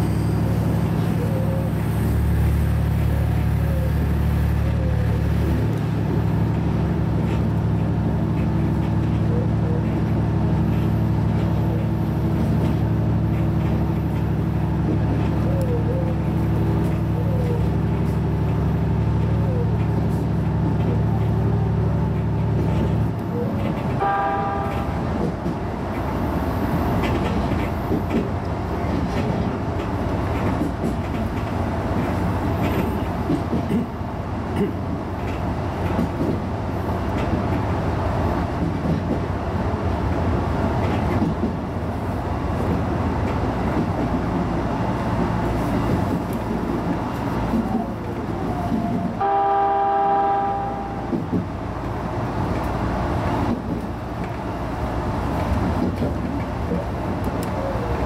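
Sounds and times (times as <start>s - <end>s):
train rolling rumble: 0.0s - 58.0s.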